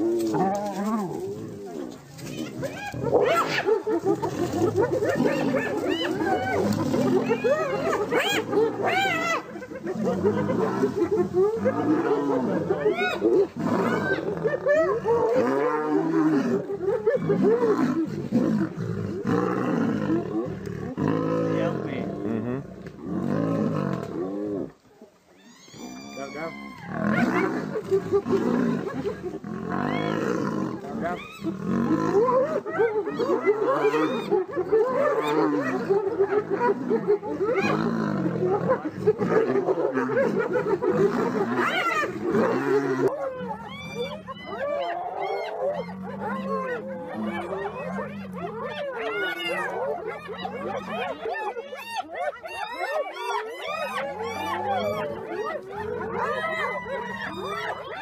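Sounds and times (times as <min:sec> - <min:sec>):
animals yelping: 0:00.0 - 0:22.2, 0:23.1 - 0:58.0
animals growling: 0:00.0 - 0:58.0.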